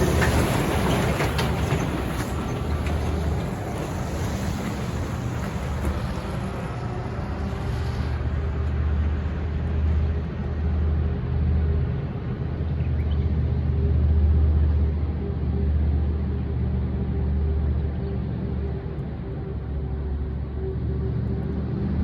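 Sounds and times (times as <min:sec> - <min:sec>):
tank engine rumbling: 0:00.0 - 0:22.0.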